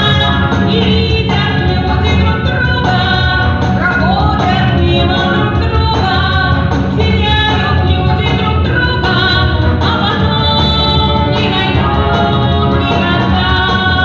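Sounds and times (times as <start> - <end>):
backing track: 0.0 - 14.0.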